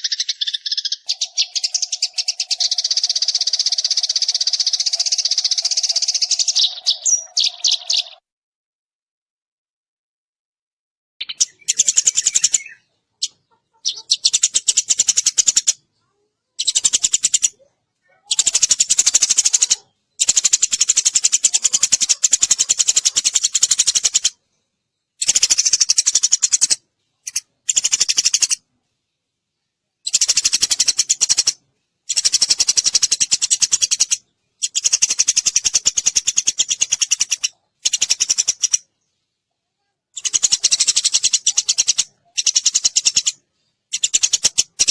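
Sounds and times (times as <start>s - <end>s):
sparrows chirping rapidly: 0.0s - 8.2s, 11.2s - 44.9s.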